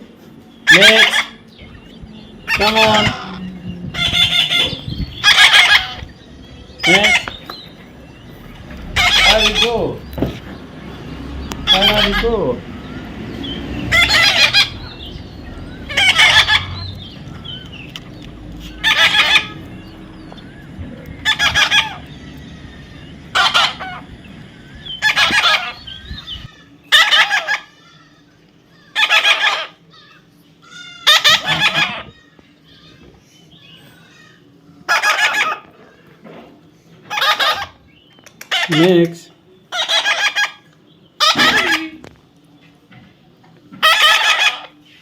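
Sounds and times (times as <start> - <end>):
parrot squawking: 0.6 - 10.1, 11.6 - 13.0, 13.8 - 17.8, 18.6 - 33.1, 33.9 - 35.7, 37.1 - 37.8, 38.4 - 39.1, 39.7 - 42.1, 43.8 - 44.8.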